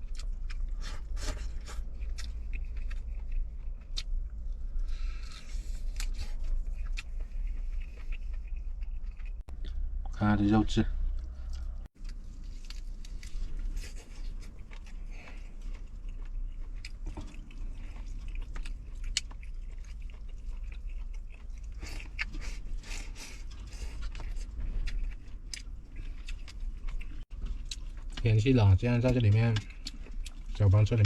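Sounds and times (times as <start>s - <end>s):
person chewing chicken: 0.0s - 9.8s, 11.1s - 28.2s, 29.0s - 31.0s
low steady hum: 0.0s - 31.0s.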